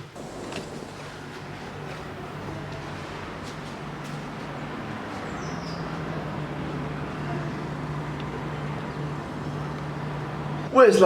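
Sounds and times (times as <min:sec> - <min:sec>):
boat engine humming: 0:00.0 - 0:10.7.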